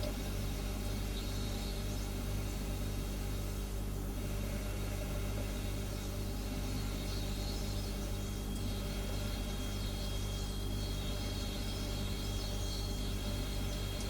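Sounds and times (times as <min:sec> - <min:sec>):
refrigerator humming: 0:00.0 - 0:14.0.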